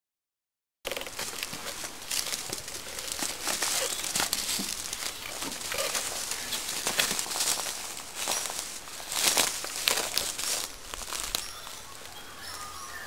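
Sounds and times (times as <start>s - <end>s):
footsteps crunching through dry grass: 0.9s - 13.0s.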